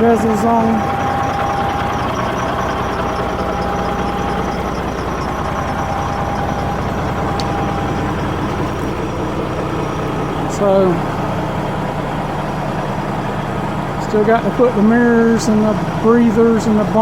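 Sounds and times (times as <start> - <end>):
diesel engine idling: 0.0 - 17.0
faint steady whine: 0.0 - 17.0.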